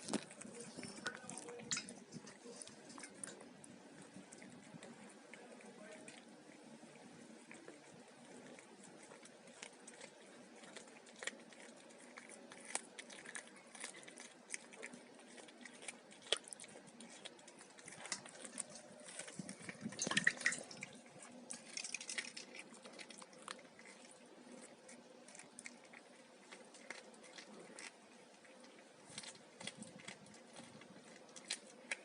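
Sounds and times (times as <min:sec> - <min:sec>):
cat chewing and licking: 0:00.0 - 0:32.0.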